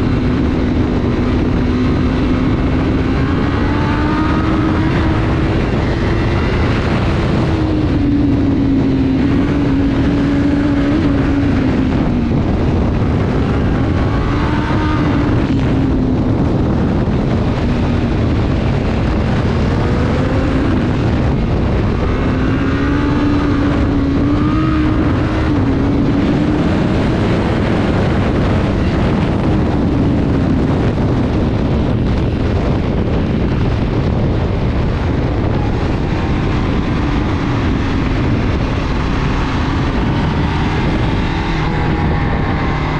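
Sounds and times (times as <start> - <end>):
road and wind noise: 0.0 - 42.9
vehicle engine running: 0.0 - 42.9.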